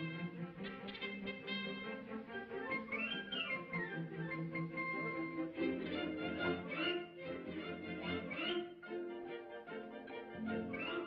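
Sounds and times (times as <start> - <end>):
orchestral strings music: 0.0 - 11.0.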